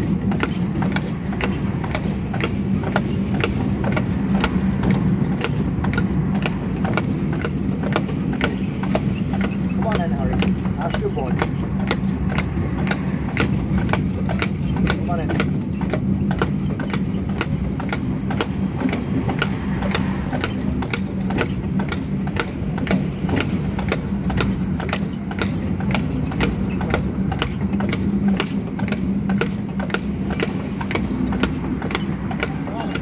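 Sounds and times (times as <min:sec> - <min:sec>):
horse hooves clip-clopping: 0:00.0 - 0:33.0
tram wheels rumbling on rails: 0:00.0 - 0:33.0.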